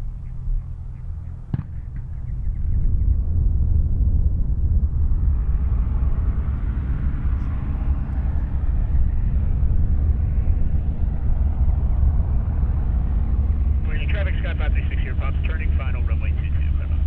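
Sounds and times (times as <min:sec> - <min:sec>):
light airplane engine and propeller: 0:00.0 - 0:17.0.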